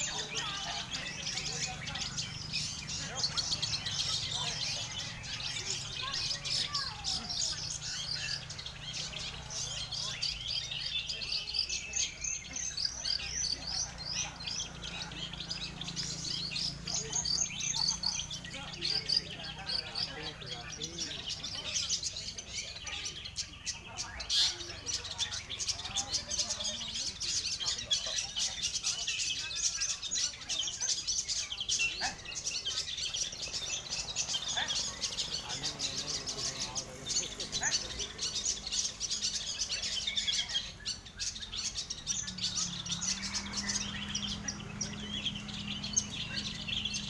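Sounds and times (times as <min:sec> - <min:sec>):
songbirds chirping and trilling: 0:00.0 - 0:47.0.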